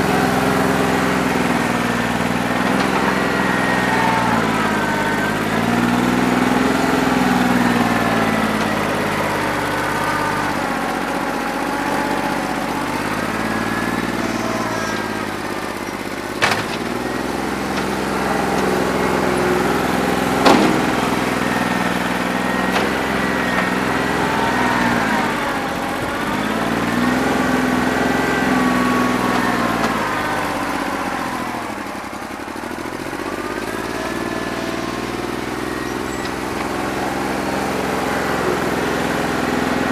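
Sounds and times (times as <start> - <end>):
tractor diesel engine running unevenly: 0.0 - 39.9.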